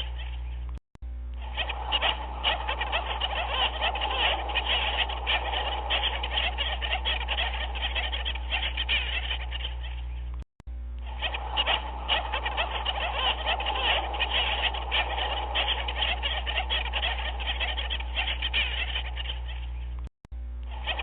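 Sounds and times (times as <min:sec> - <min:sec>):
chorus of animal calls: 0:00.0 - 0:00.7, 0:01.4 - 0:10.4, 0:11.0 - 0:20.0, 0:20.7 - 0:21.0
steady low hum: 0:00.0 - 0:21.0.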